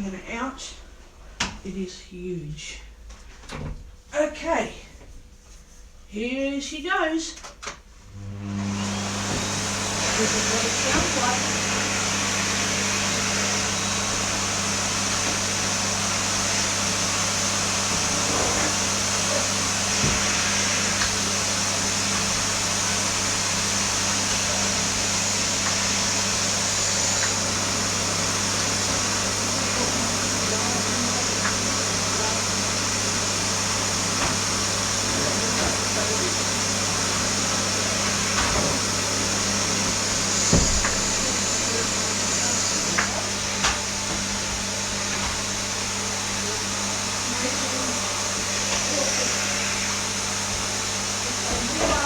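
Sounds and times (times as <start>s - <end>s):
vacuum cleaner running: 8.0s - 52.0s.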